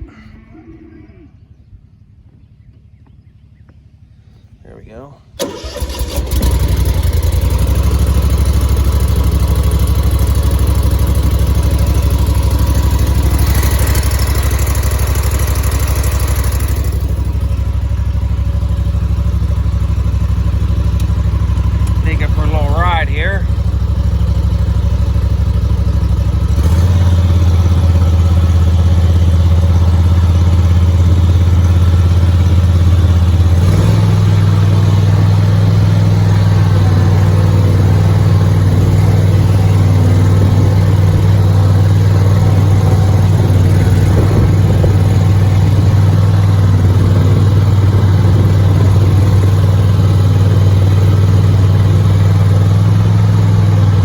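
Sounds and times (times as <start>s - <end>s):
mower engine running: 5.4s - 54.0s.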